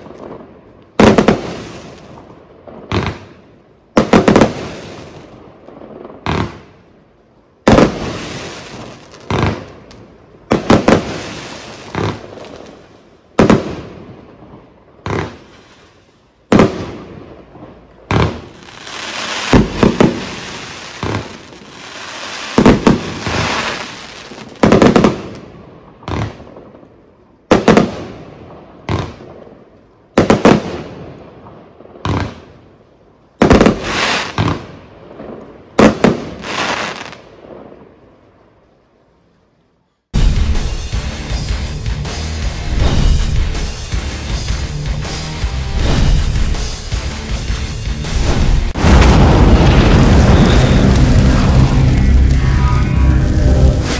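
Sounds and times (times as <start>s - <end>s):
fireworks bangs: 0.0s - 26.9s, 27.5s - 29.5s, 30.1s - 32.6s, 33.4s - 37.9s, 42.7s - 53.9s.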